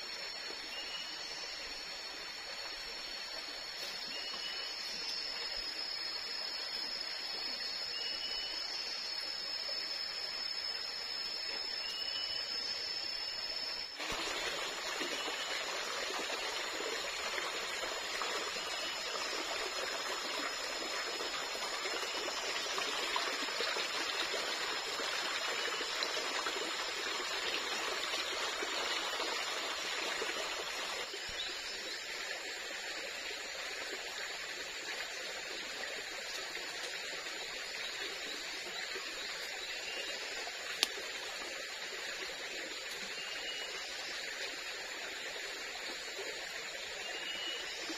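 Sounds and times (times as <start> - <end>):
forest stream rushing and trickling: 0.0 - 47.9.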